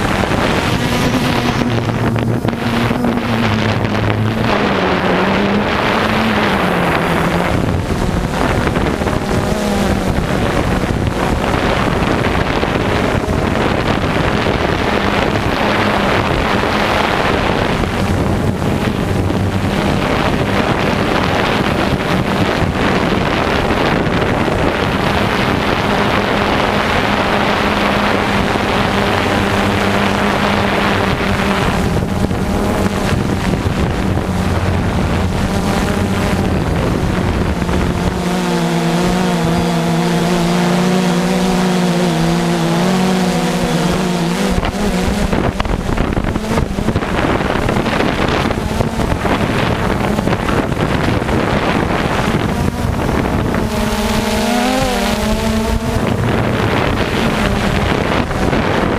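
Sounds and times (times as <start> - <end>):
radio-controlled cars running: 0.0 - 58.9
steady droning tone: 0.0 - 58.9
wind on microphone: 0.0 - 58.9.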